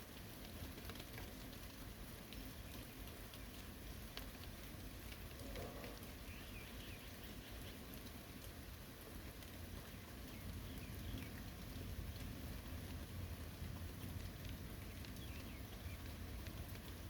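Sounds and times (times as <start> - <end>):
rain falling on forest: 0.0 - 17.0
raindrops ticking: 0.0 - 17.0.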